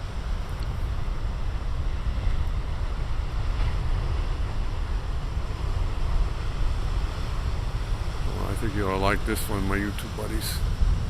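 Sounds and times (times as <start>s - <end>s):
ocean waves crashing: 0.0s - 11.0s
wind buffeting microphone: 0.0s - 11.0s.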